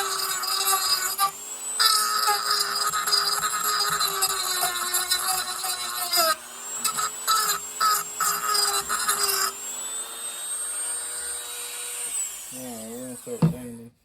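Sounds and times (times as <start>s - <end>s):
rotary tool whining: 0.0s - 13.8s.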